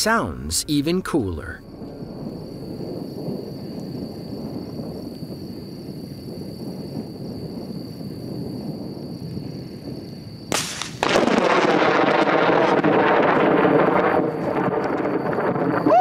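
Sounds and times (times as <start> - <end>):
lightning snap: 0.0 - 16.0
loud rolling thunder: 0.1 - 16.0.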